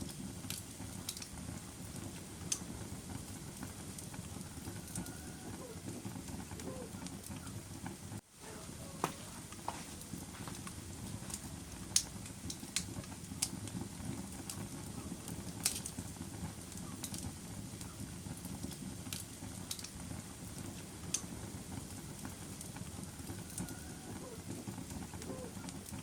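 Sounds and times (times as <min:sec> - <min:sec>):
burning logs crackling and popping: 0:00.0 - 0:26.0
low rumble of flames: 0:00.0 - 0:26.0.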